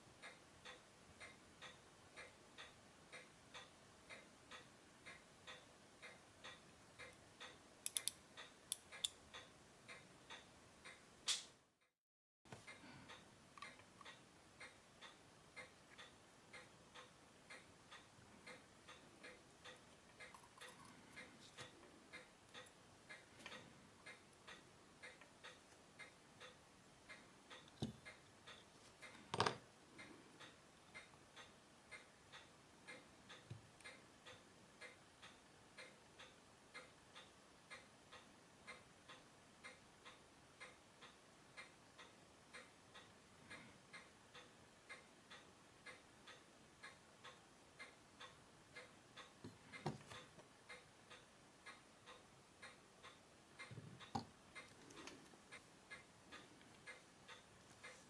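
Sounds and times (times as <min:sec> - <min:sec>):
faint watch ticking: 0:00.0 - 0:11.2, 0:12.6 - 0:58.0.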